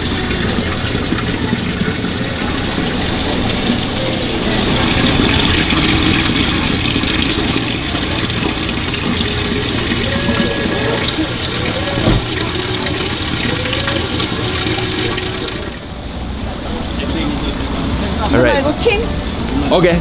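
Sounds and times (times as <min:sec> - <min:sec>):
water rushing into tank: 0:00.0 - 0:18.0
tank pump humming: 0:00.0 - 0:19.9
faint market voices: 0:00.0 - 0:20.0.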